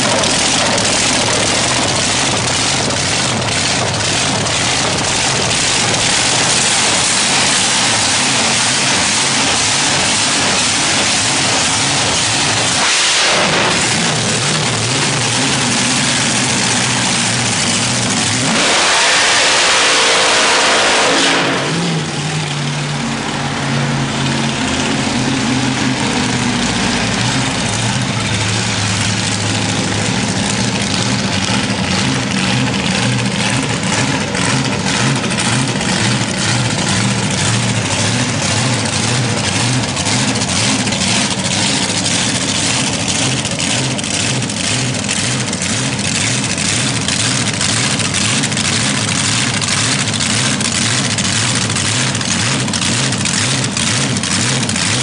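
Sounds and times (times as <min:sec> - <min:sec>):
dragster engine at high revs: 0:00.0 - 0:55.0.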